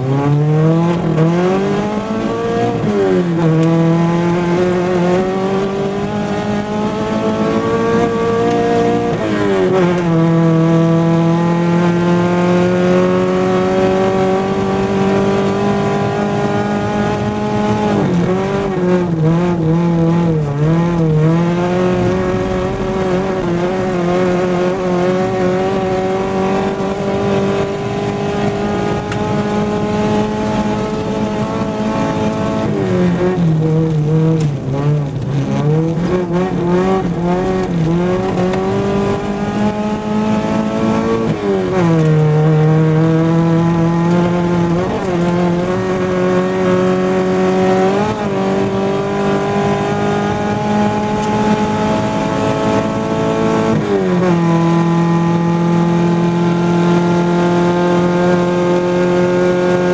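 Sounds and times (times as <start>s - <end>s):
rally car engine pulling hard: 0.0s - 59.9s.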